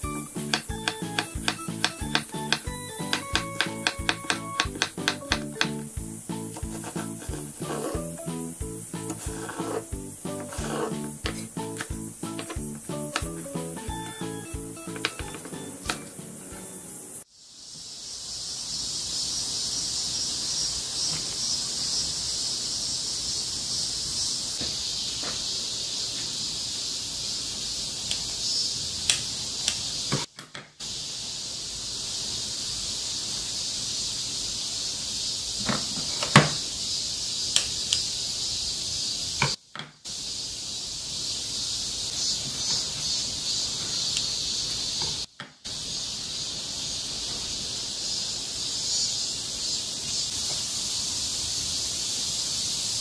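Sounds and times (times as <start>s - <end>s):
high-pitched outdoor hiss: 0.0s - 53.0s.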